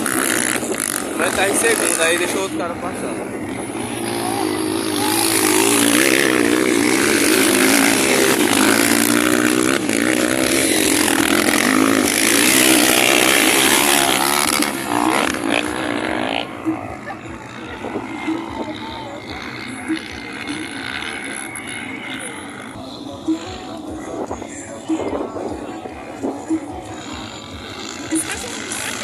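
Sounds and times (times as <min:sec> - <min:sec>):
motocross motorcycles revving past: 0:00.0 - 0:24.3, 0:24.9 - 0:29.0.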